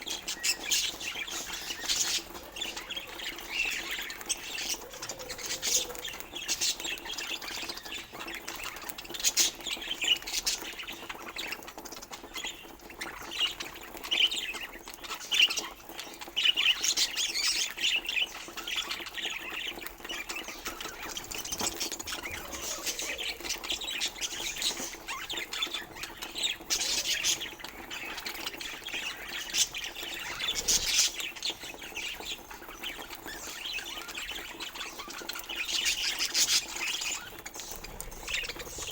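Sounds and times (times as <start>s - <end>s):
budgerigars chirping and squawking: 0.0s - 38.9s.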